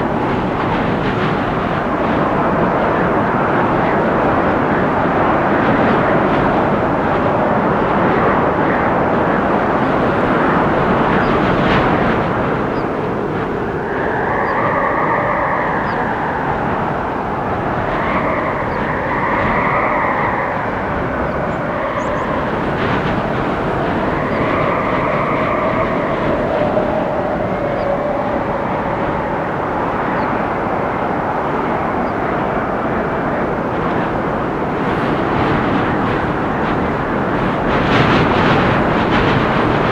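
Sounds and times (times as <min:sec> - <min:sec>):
wind roaring through trees: 0:00.0 - 0:39.9
wind whistling: 0:00.0 - 0:39.9.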